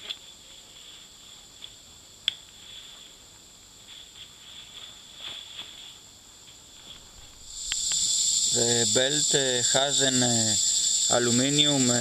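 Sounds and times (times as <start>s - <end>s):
steady high-pitched hum: 0.0s - 12.0s.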